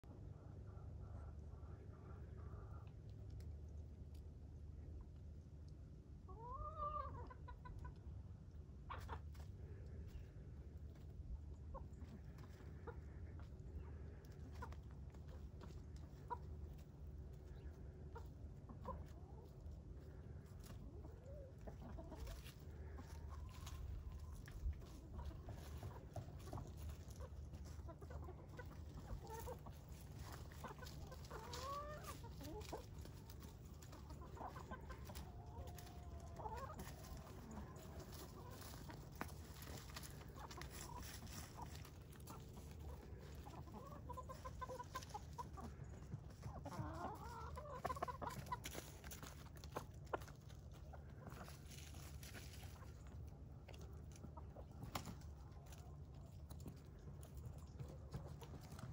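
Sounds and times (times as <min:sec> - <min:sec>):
hens clucking: 0:00.0 - 0:58.9.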